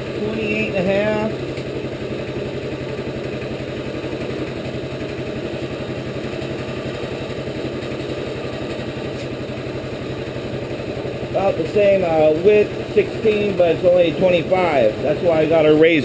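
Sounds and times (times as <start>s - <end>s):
sawmill engine idling: 0.0s - 16.0s.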